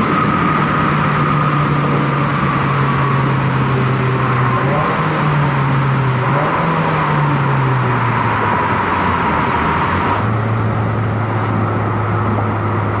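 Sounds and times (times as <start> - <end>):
car engine drone: 0.0 - 13.0.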